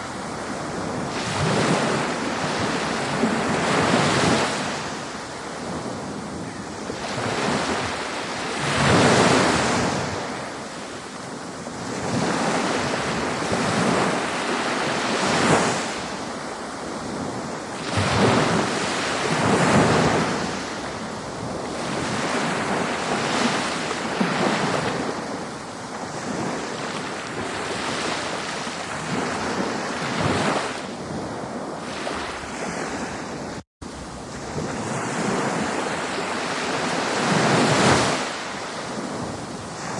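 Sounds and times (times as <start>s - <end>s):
ocean waves breaking ashore: 0.0s - 39.9s.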